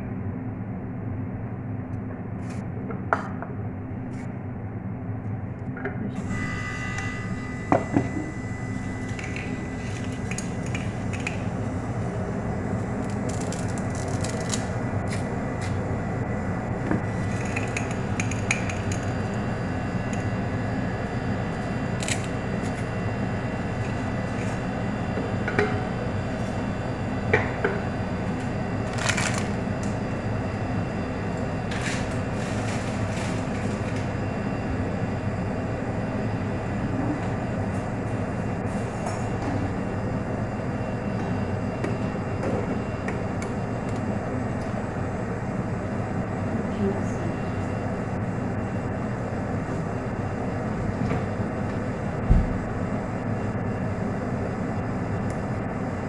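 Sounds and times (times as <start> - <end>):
gas burner hum and rush: 0.0 - 56.0.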